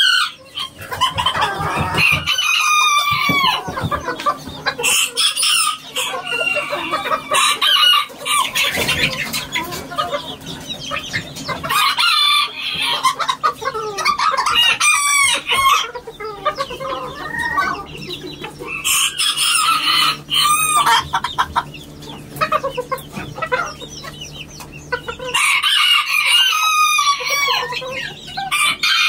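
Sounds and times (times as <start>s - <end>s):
chickens clucking: 0.0s - 29.0s
roosters crowing: 0.0s - 29.0s.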